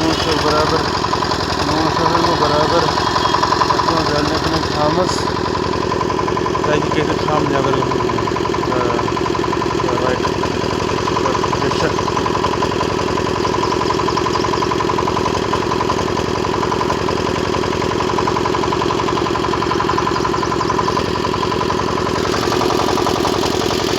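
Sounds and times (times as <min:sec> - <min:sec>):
diesel generator engine running: 0:00.0 - 0:23.9.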